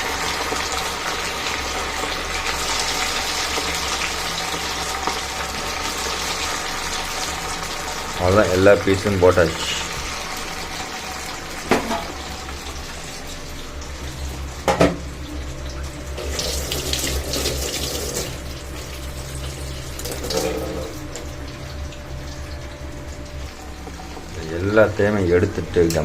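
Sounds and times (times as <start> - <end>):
oil sizzling and crackling: 0.0 - 26.0.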